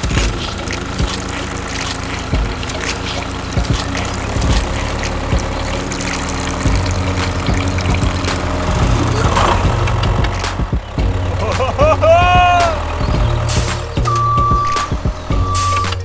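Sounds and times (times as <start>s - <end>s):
small motor humming: 0.0s - 16.0s.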